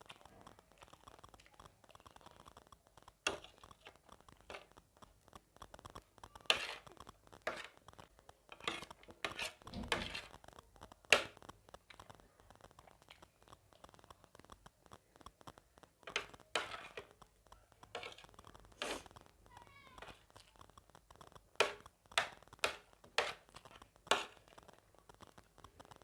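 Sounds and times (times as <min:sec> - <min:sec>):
person chewing wet snack: 0:00.0 - 0:26.0
sharp crunches and clicks: 0:00.0 - 0:26.0.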